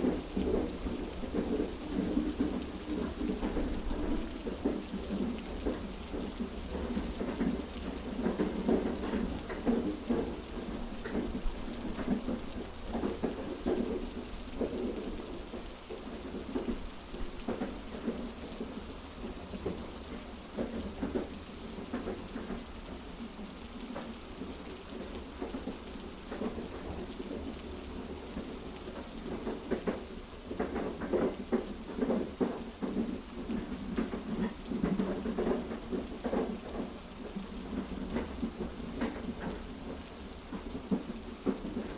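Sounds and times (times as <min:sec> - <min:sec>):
heavy rain: 0:00.0 - 0:41.9
train carriage rumble: 0:00.0 - 0:41.9.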